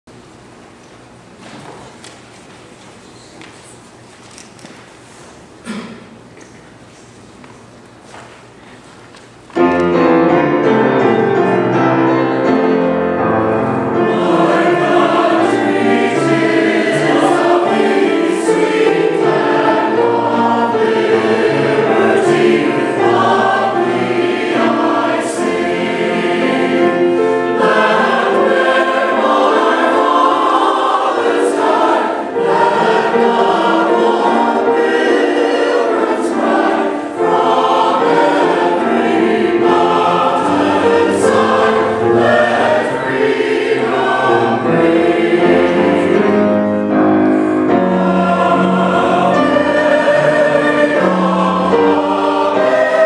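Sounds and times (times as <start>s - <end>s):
mixed choir singing: 9.9s - 53.0s.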